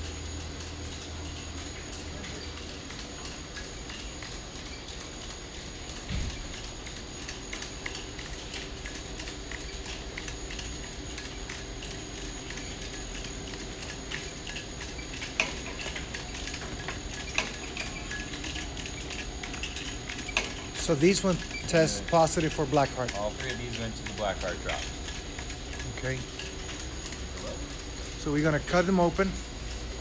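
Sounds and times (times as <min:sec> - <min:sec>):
grading line machine hum: 0:00.0 - 0:30.0.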